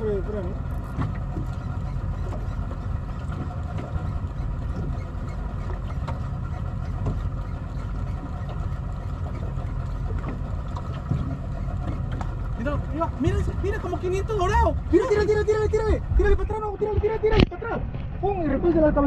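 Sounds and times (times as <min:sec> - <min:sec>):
boat engine drone: 0:00.0 - 0:19.0
wind: 0:00.0 - 0:19.0.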